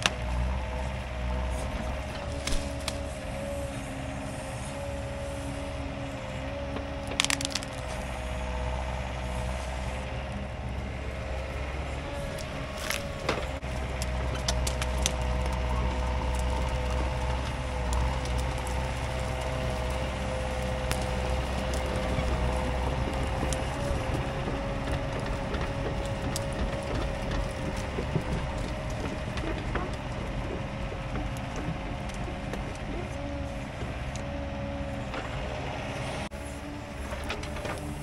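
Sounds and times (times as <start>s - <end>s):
roots cracking and snapping: 0.0s - 3.7s, 4.9s - 9.5s, 11.1s - 35.6s
excavator diesel engine under load: 0.0s - 38.0s.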